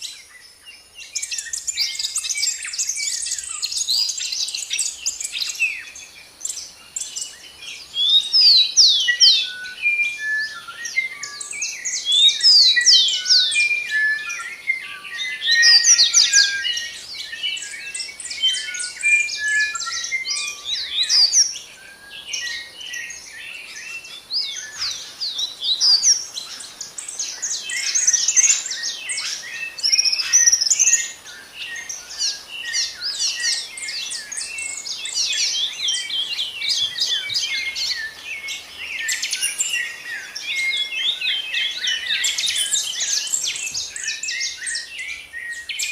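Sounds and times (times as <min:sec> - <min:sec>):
many birds chirping and singing: 0:00.0 - 0:45.9.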